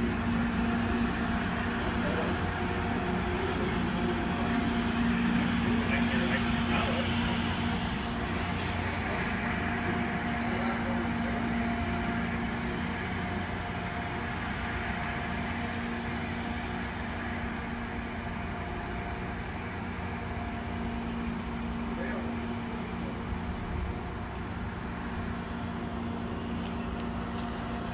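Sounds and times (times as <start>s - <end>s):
distant rail grinder engine drone: 0.0s - 27.9s.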